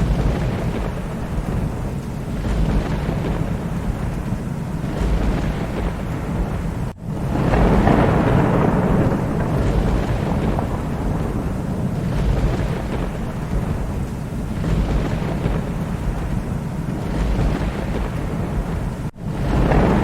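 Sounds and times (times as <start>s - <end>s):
rain hissing: 0.0s - 20.0s
rolling thunder: 0.0s - 20.0s.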